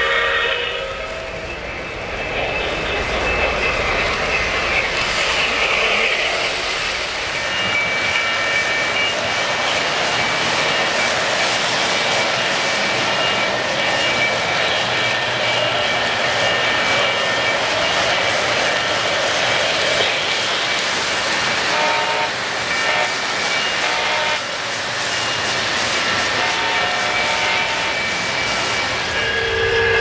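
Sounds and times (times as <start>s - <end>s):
model train rolling on metal track: 0.0s - 30.0s.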